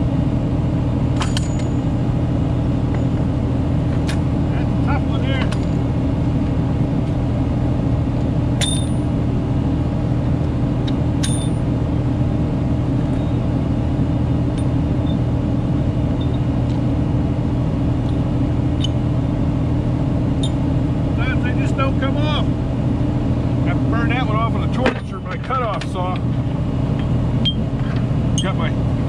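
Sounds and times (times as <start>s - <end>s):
truck engine running steadily: 0.0s - 29.0s.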